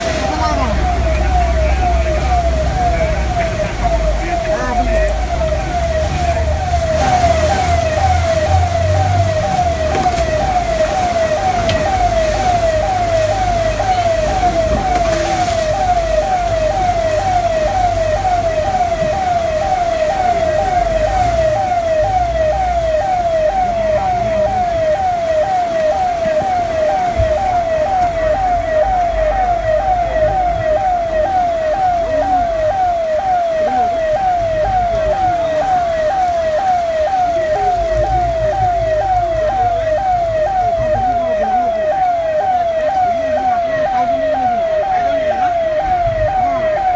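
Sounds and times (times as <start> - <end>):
electronic siren sweeping: 0.0 - 46.9
low vehicle rumble: 0.0 - 46.9.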